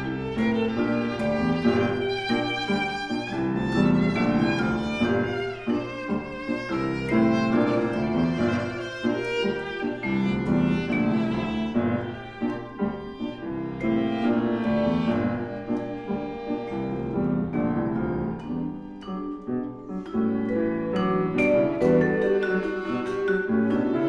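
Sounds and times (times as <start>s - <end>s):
bowed viola: 0.0s - 24.0s
piano chords: 0.0s - 24.0s.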